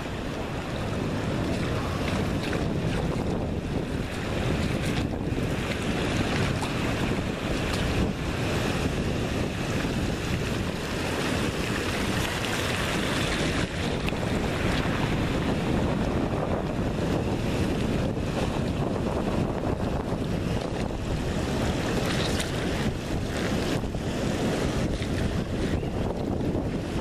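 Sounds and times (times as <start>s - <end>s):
surf washing: 0.0s - 27.0s
wind buffeting the microphone: 0.0s - 27.0s.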